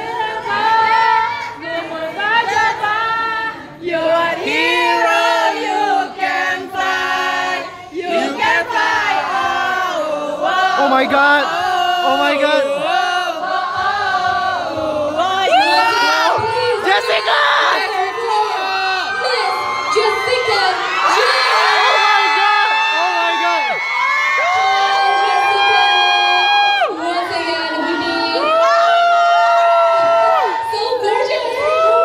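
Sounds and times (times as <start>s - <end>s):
woman singing through speakers: 0.0s - 10.8s, 12.6s - 22.0s, 24.9s - 32.0s
crowd singing along: 0.0s - 32.0s.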